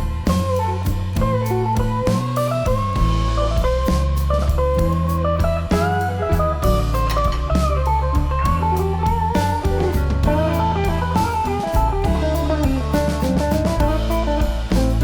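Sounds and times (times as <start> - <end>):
bass: 0.0 - 15.0
bluesy electric guitar melody: 0.0 - 15.0
steady drum beat: 0.0 - 15.0.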